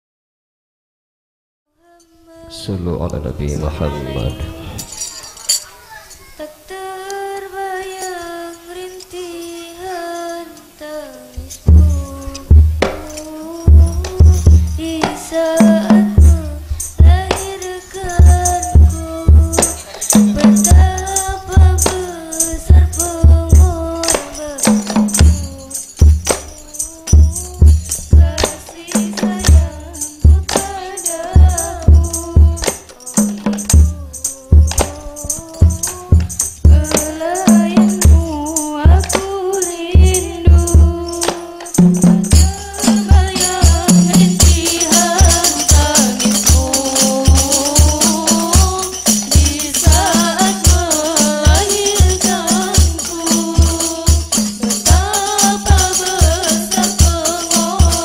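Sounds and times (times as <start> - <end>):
woman singing: 1.8 - 5.6, 6.4 - 58.0
tambourine jingle: 4.6 - 6.3, 7.3 - 58.0
frame drum and bass drum strokes: 11.4 - 58.0.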